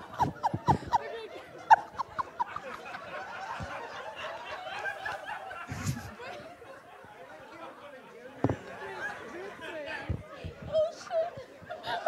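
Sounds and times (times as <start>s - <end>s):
audience laughter and chatter: 0.0s - 12.0s.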